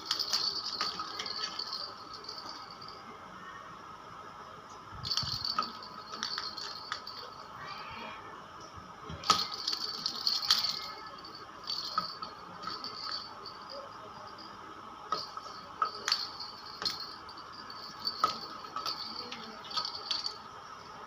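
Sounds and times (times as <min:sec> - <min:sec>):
toy ball rattling: 0:00.0 - 0:03.1, 0:05.0 - 0:07.6, 0:09.0 - 0:21.0.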